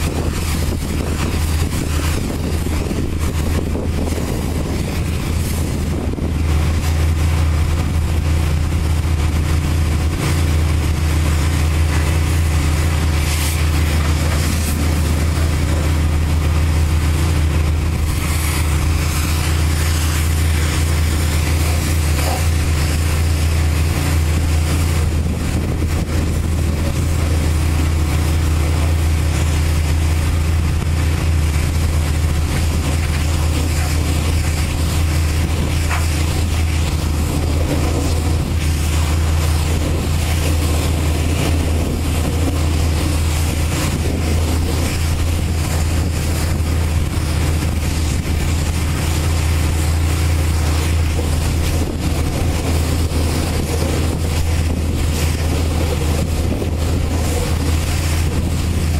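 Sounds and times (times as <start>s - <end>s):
low machine drone: 0.0s - 58.9s
pressure washer spraying water: 0.0s - 58.9s.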